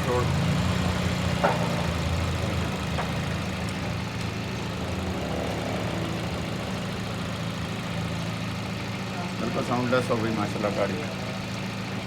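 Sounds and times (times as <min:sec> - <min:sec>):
petrol engine idling: 0:00.0 - 0:12.0.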